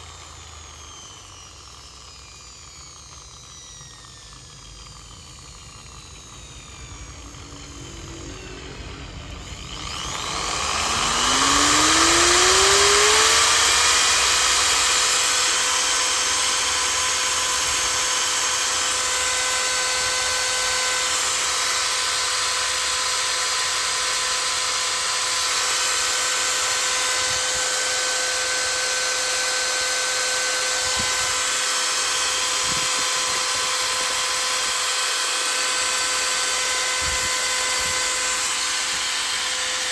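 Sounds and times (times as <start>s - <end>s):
electric drill motor whining: 0.0s - 39.9s.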